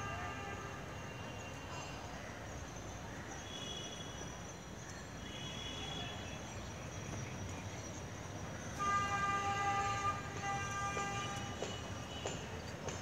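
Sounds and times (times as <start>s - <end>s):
distant city traffic: 0.0s - 13.0s.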